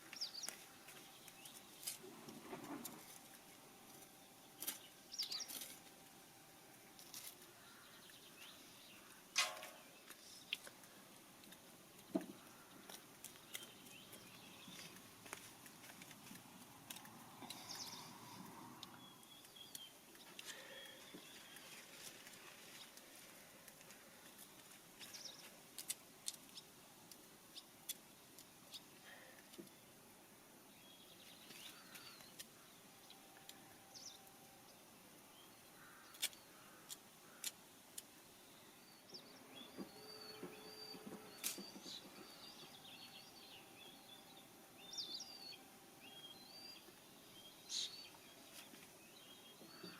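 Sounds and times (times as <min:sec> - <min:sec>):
small birds chirping: 0:00.0 - 0:02.0, 0:03.0 - 0:05.9, 0:07.0 - 0:30.0, 0:30.7 - 0:49.9.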